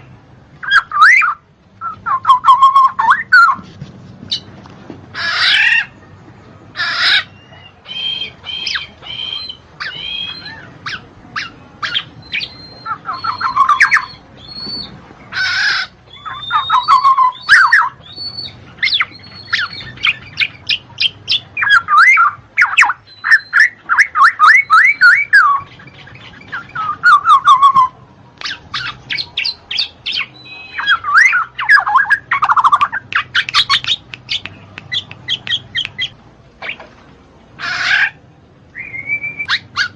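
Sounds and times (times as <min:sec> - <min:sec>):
bird squawking and whistling: 0:00.6 - 0:03.6, 0:05.2 - 0:06.0, 0:06.8 - 0:36.8, 0:37.6 - 0:39.9.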